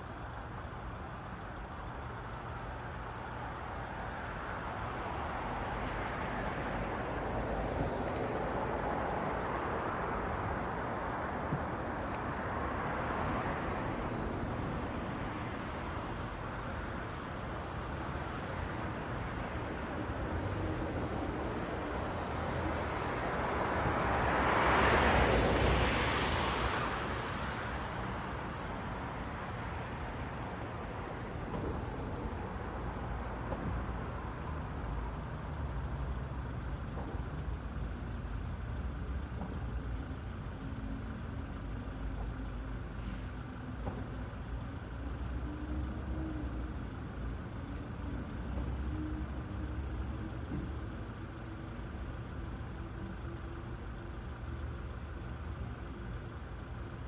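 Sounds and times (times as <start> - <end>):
rumble of road traffic: 0.0 - 57.0.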